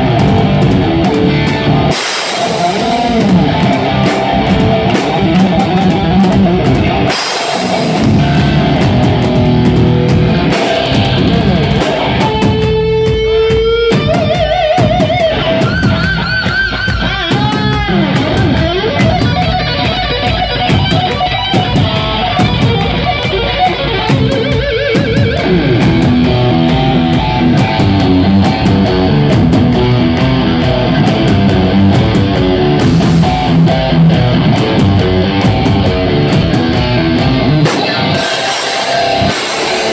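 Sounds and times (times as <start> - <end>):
distorted electric guitar: 0.0 - 39.9
heavy metal band playing: 0.0 - 39.9.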